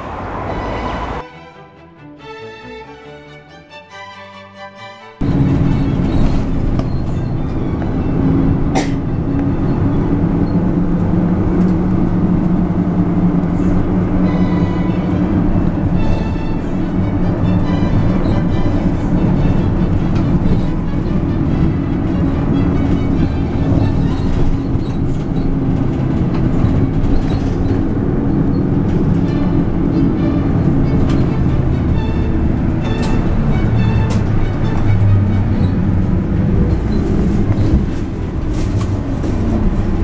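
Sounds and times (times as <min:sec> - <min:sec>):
bus engine and road drone: 0:00.0 - 0:40.0.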